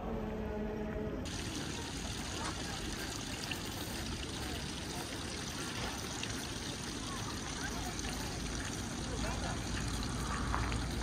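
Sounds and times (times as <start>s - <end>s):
fountain water splashing: 1.3s - 11.0s
faint voices: 1.4s - 11.0s.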